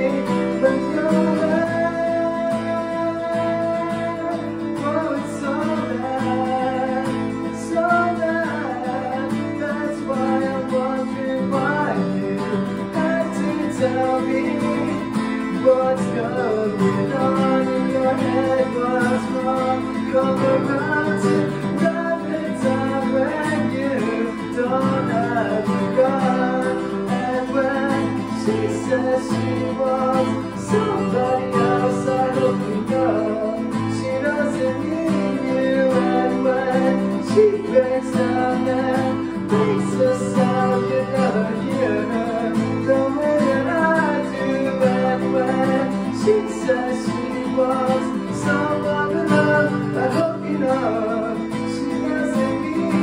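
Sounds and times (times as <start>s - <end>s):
acoustic guitar strummed: 0.0s - 53.0s
man singing: 0.0s - 53.0s.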